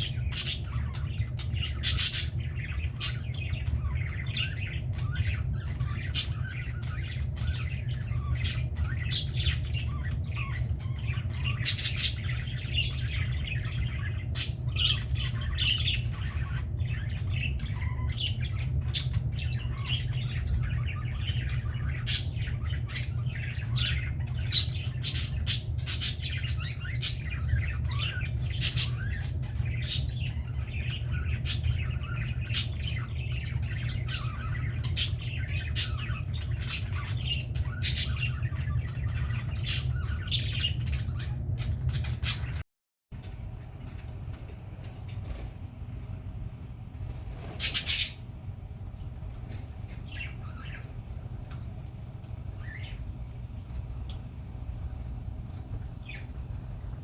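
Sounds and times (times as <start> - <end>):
budgerigars chattering: 0.0 - 42.6, 47.4 - 48.3, 49.5 - 51.8
steady low hum: 0.0 - 57.0.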